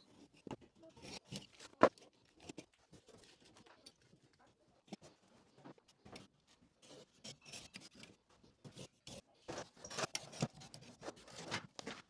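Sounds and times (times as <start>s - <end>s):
faint handling taps and scrapes: 0.0s - 12.0s.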